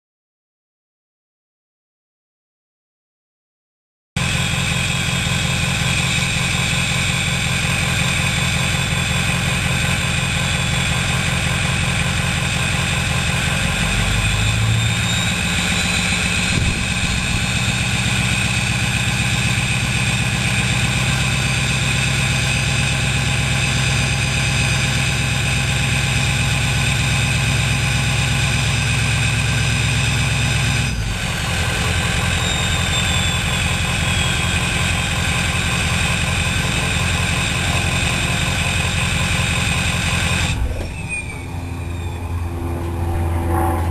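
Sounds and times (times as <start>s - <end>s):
diesel engine idling: 4.2s - 43.9s
turbocharger whistling: 4.2s - 43.9s.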